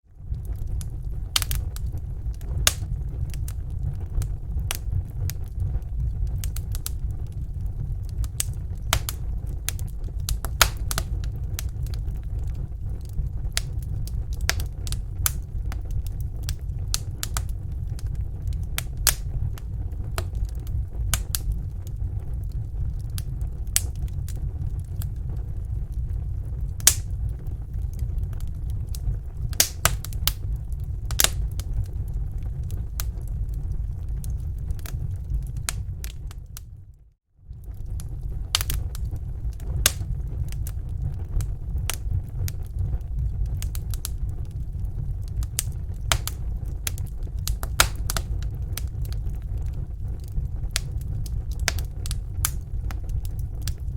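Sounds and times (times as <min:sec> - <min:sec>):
low rumble: 0:00.0 - 0:53.9
campfire crackling and popping: 0:00.2 - 0:36.9, 0:37.5 - 0:53.9.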